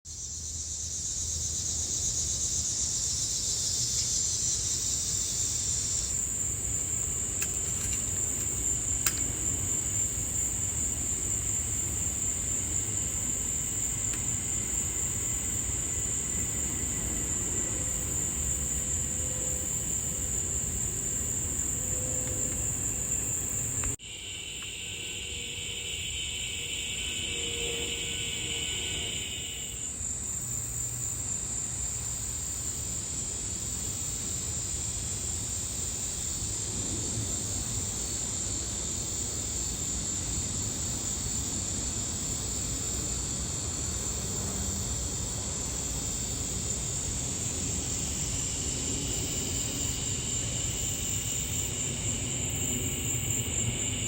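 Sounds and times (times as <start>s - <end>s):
insects chirring: 0.1s - 54.0s
lower-pitched insects: 0.1s - 54.0s.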